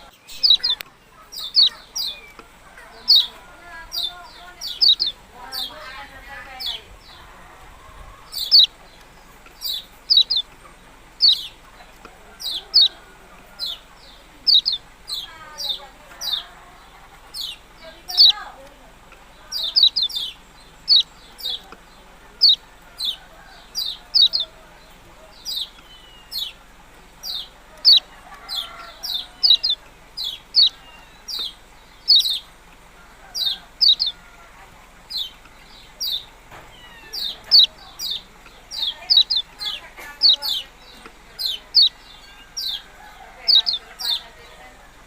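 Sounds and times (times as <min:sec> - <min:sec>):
songbird sharp chirps: 0:00.0 - 0:44.6.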